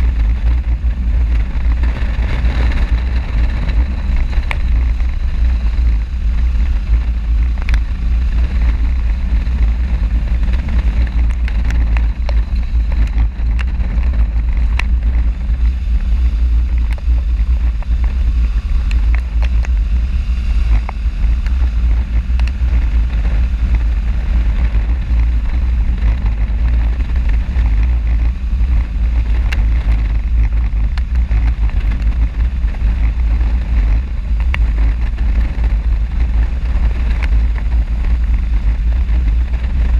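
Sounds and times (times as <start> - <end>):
motorcycle engine: 0.0 - 39.9
road noise: 0.0 - 39.9
wind rumble on microphone: 0.0 - 39.9.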